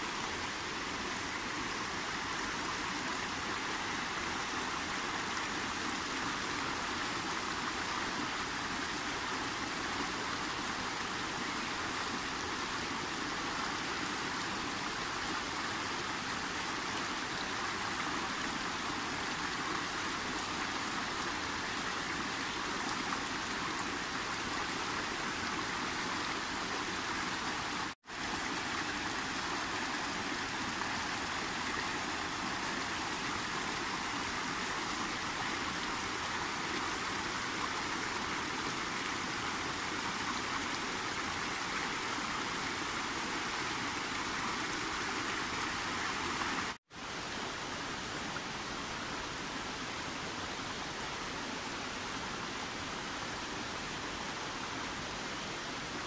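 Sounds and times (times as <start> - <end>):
stream rushing over boulders: 0.0 - 56.0.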